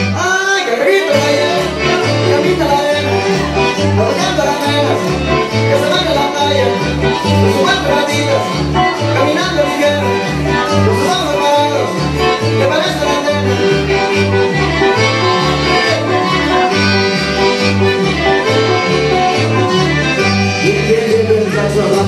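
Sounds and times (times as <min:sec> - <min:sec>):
upbeat dance music: 0:00.0 - 0:22.0.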